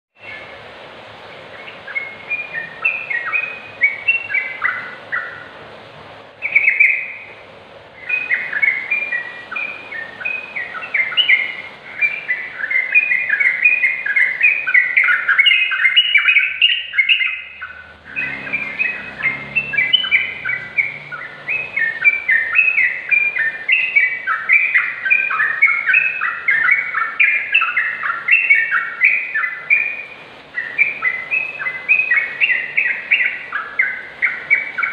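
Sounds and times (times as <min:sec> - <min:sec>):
bird singing chattering notes: 0:01.6 - 0:05.5, 0:06.4 - 0:07.3, 0:08.0 - 0:34.9.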